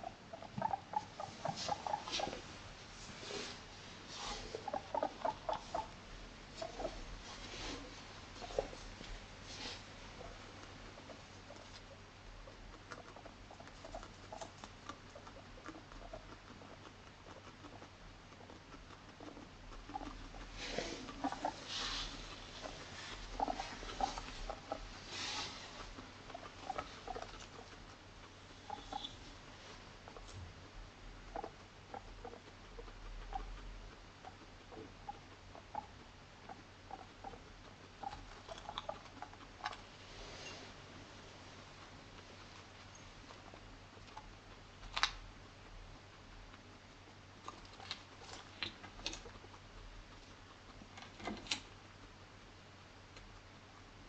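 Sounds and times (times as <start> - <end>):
guinea pig clicks and chuts: 0.0 - 2.3, 4.5 - 7.2, 10.1 - 40.0, 40.8 - 54.0.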